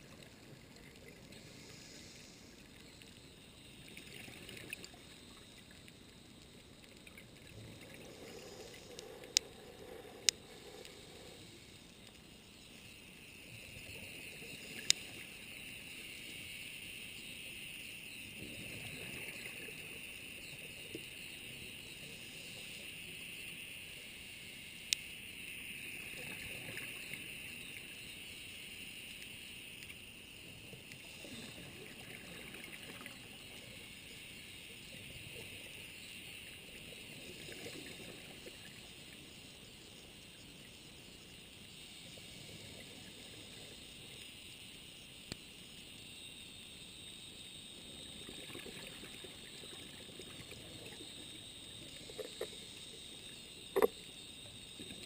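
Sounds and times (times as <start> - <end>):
underwater crackling hiss: 0.0 - 55.0.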